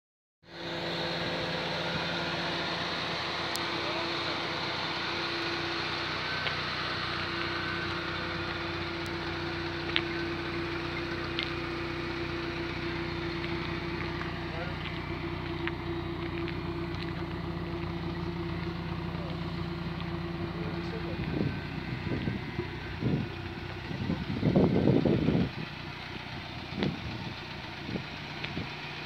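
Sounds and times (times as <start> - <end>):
car engine idling: 0.4 - 29.0.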